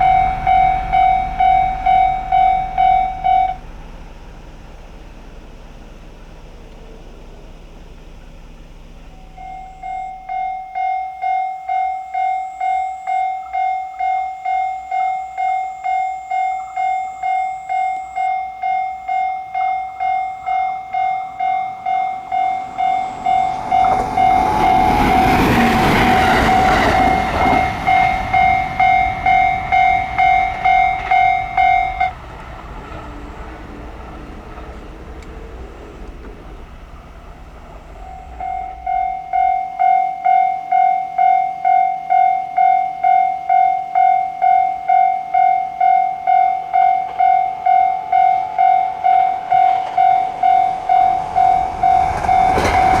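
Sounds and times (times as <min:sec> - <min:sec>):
level crossing warning bell: 0:00.0 - 0:07.5, 0:08.5 - 0:53.0
train passing: 0:00.0 - 0:53.0.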